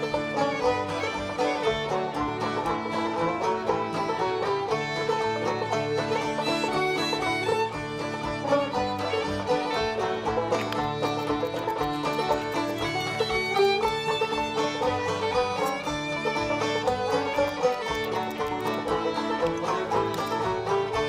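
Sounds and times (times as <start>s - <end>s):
bluegrass string-band music: 0.0s - 21.0s.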